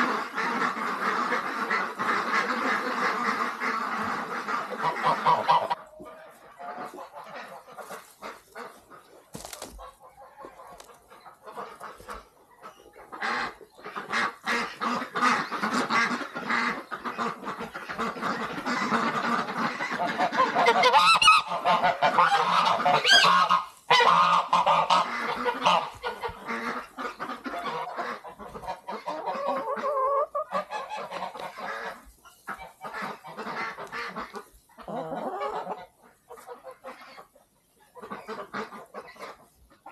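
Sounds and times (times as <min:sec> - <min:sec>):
geese honking: 0:00.0 - 0:37.3, 0:38.0 - 0:39.9.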